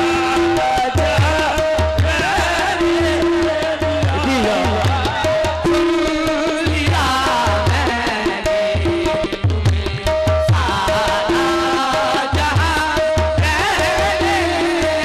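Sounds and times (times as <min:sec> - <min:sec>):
harmonium notes: 0:00.0 - 0:15.0
tabla strokes: 0:00.0 - 0:15.0.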